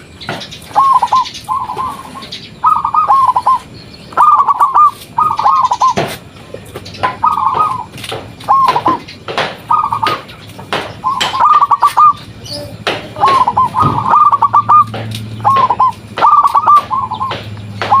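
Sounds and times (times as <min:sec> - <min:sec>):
dove cooing: 0:00.6 - 0:06.2, 0:07.0 - 0:09.1, 0:09.7 - 0:18.0.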